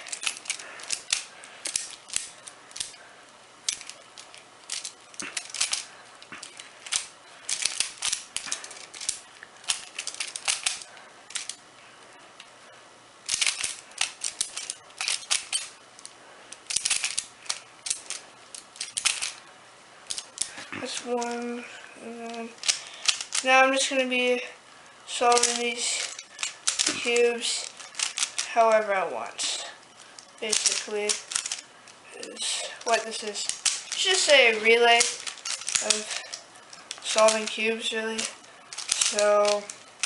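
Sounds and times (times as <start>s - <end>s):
plastic puzzle clicking as turned: 0.0s - 3.0s, 3.6s - 11.6s, 13.3s - 19.4s, 20.1s - 21.5s, 22.3s - 23.5s, 25.3s - 28.5s, 30.2s - 31.6s, 32.2s - 40.0s.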